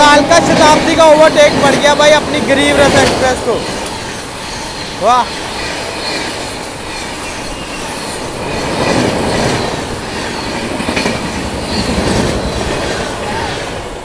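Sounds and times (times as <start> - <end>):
wheels clickety-clack: 0.0 - 13.5
train wheels rumbling on rail: 0.0 - 14.0.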